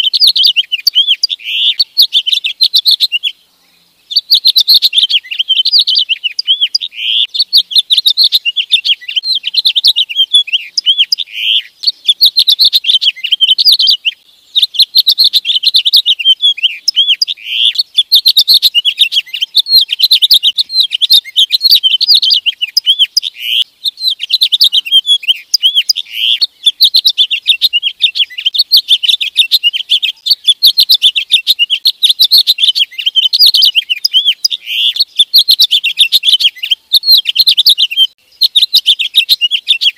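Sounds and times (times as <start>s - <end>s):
finch singing warbling song: 0.0s - 39.9s.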